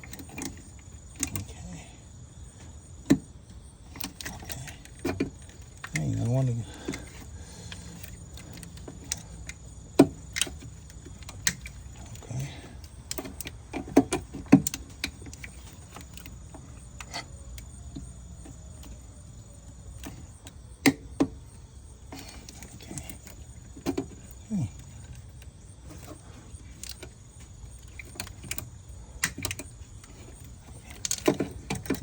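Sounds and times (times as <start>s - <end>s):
steady low hum: 0.0s - 32.0s
wiring connectors clicking: 3.9s - 32.0s.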